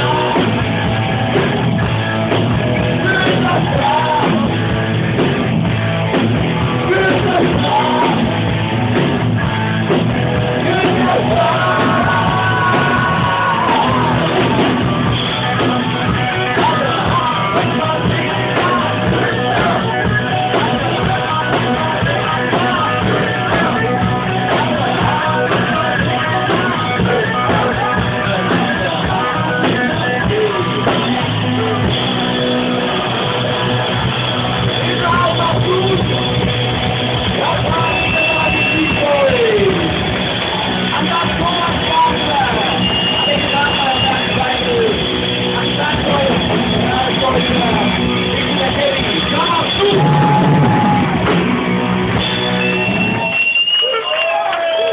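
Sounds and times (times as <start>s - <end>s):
rock music with singer and guitars: 0.0s - 54.9s.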